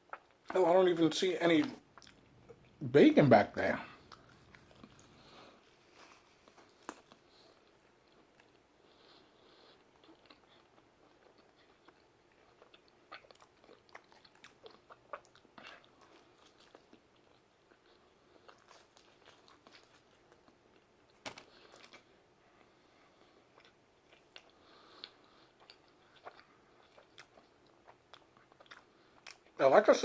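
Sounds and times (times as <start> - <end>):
close-up chewing: 0.0 - 0.5, 1.6 - 2.8, 3.6 - 29.6.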